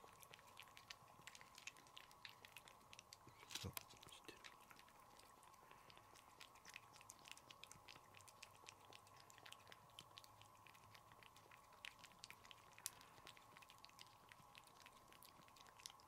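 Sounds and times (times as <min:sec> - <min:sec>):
cat licking wet tongue clicks: 0:00.2 - 0:16.0.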